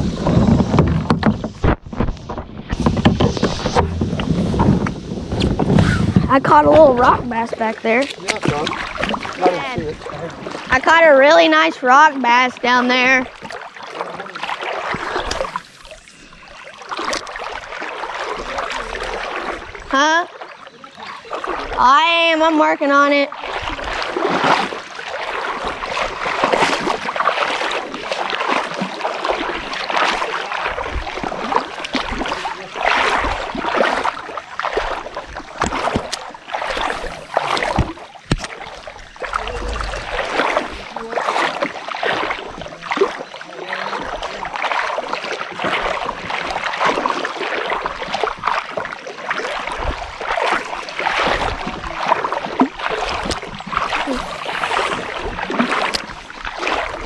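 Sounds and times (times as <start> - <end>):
river water splashing: 0.0 - 57.0.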